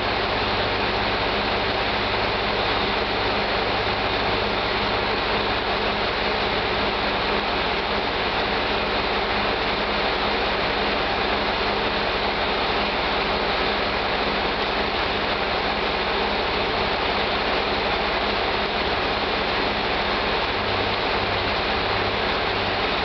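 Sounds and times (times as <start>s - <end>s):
diesel railcar engine running: 0.0s - 23.0s.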